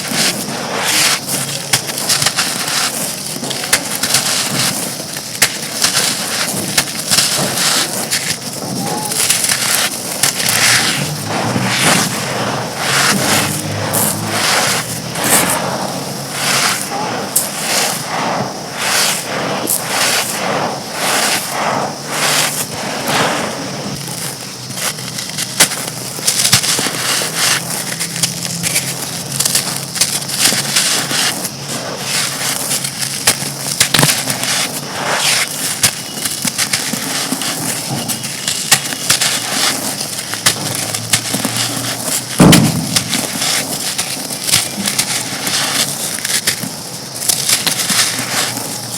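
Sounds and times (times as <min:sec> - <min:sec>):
brittle bricks crumbling and crunching: 0:01.1 - 0:17.6, 0:24.0 - 0:34.7, 0:35.3 - 0:48.9.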